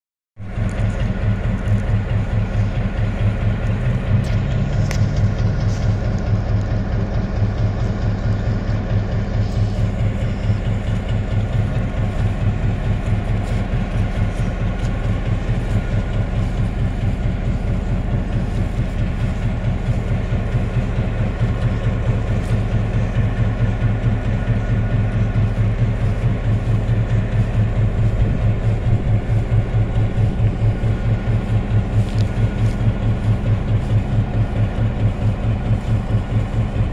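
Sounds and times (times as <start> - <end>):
diesel locomotive idling: 0.4 - 36.9.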